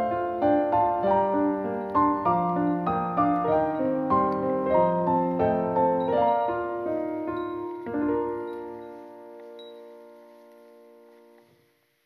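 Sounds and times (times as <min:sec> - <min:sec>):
gentle piano music: 0:00.0 - 0:11.8.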